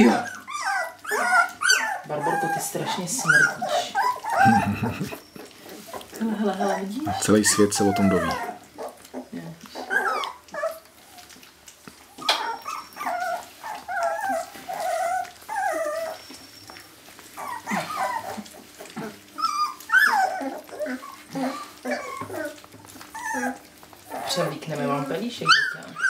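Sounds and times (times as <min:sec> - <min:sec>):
puppies whining and yipping: 0:00.0 - 0:26.0.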